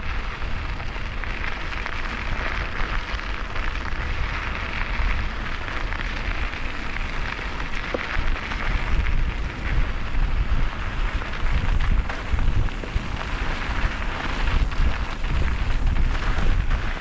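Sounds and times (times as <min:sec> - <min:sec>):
bike tyres rolling on gravel: 0:00.0 - 0:17.0
wind buffeting microphone: 0:00.0 - 0:17.0.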